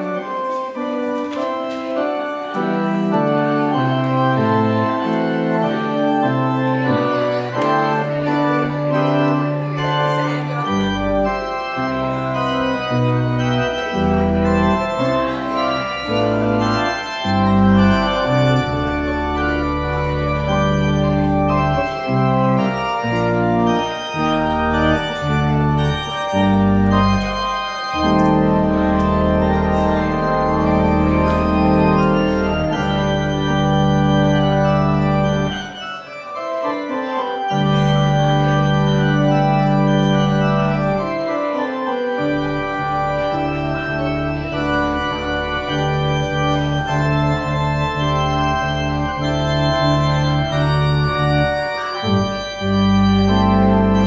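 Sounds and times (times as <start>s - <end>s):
church organ chords: 0.0s - 54.0s
deep organ bass pedal notes: 0.0s - 54.0s.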